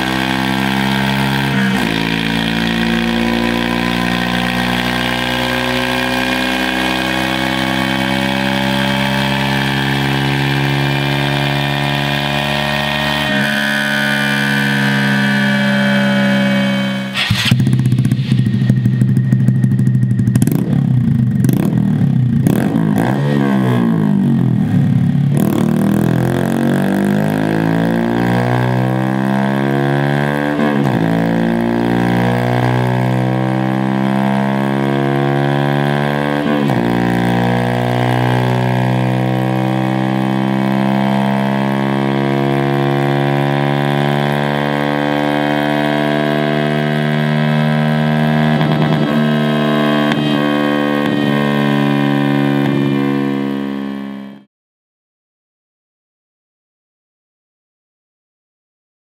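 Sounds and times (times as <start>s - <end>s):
motorcycle engine revving: 0.0s - 54.5s.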